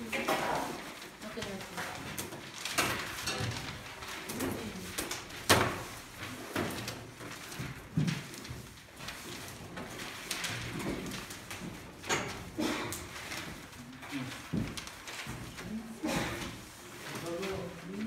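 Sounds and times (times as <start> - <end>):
paper rustling and flicking: 0.0 - 18.0
sharp paper slap: 0.4 - 17.4.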